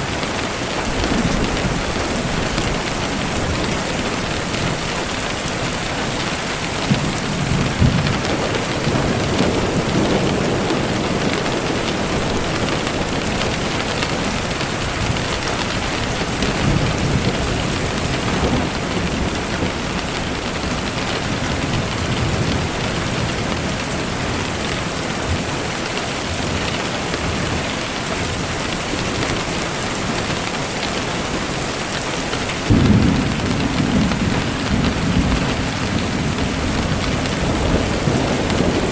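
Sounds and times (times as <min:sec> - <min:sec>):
low thunder rumbles: 0:00.0 - 0:27.6, 0:31.1 - 0:38.9
steady rain: 0:00.0 - 0:38.9.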